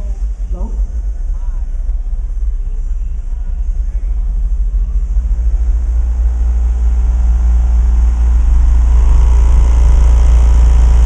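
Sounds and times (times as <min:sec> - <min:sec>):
subwoofers playing deep bass note: 0:00.0 - 0:11.0.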